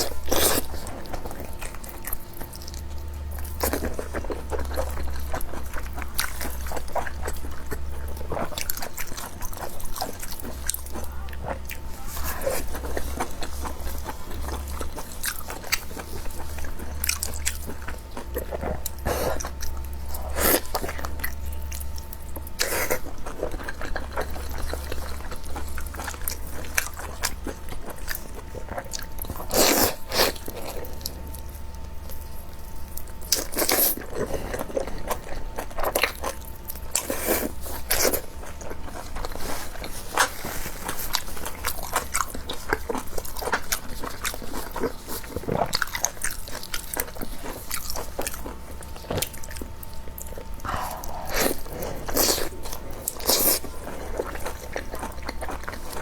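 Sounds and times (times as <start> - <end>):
chewing and biting food: 0.0 - 56.0
low steady hum: 0.0 - 56.0.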